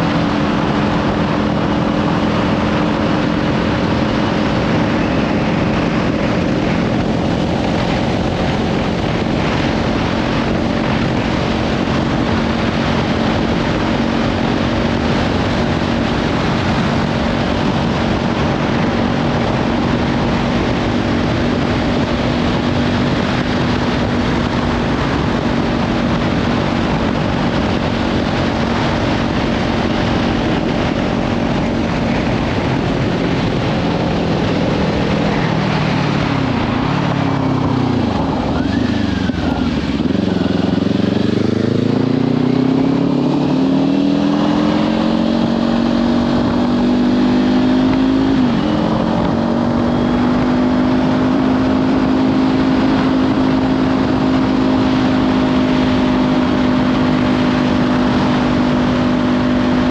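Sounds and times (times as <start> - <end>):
motorcycle engine cruising: 0.0 - 59.9
wind noise on microphone: 0.0 - 59.9.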